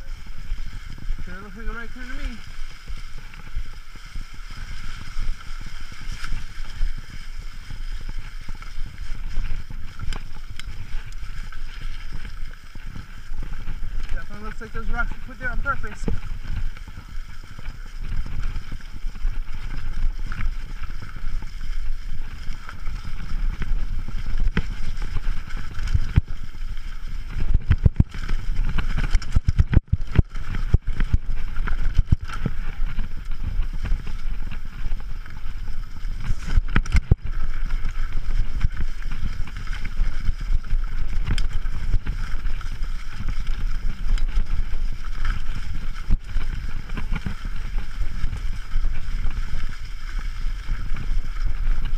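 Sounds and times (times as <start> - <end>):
bike rattling over rough ground: 0.0 - 51.9
wind rumble on microphone: 0.0 - 51.9.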